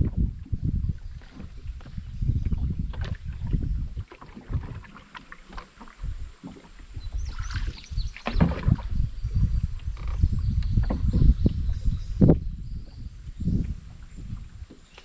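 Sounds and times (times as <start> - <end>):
thumps and knocks on canoe: 0.0 - 15.0.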